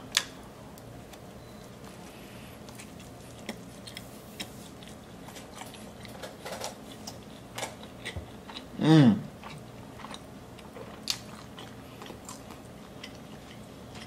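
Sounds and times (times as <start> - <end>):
wet chewing: 1.1 - 8.8, 9.4 - 14.0.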